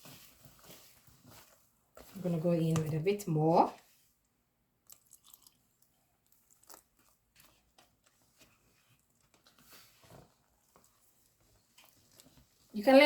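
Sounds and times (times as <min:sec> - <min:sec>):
batter mixed in a bowl: 0:00.0 - 0:13.0.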